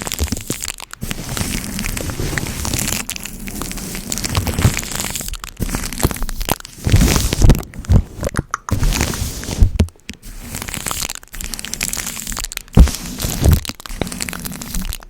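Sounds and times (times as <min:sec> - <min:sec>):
sticky tape crackling and tearing: 0:00.0 - 0:15.0.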